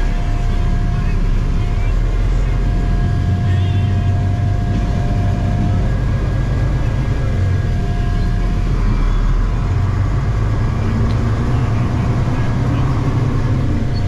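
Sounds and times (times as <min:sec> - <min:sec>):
faint steady whine: 0:00.0 - 0:14.0
truck engine and road drone: 0:00.0 - 0:14.0.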